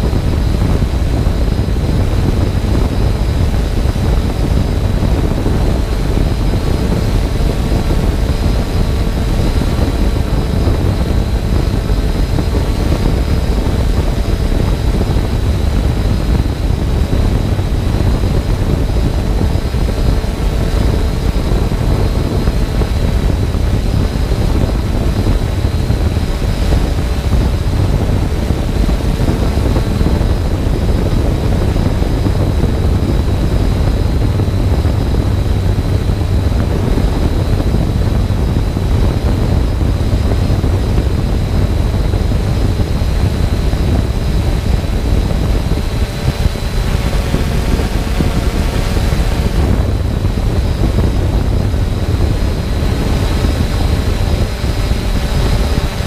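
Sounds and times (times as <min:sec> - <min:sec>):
drone propeller rush: 0:00.0 - 0:56.0
high motor whine: 0:00.0 - 0:56.0.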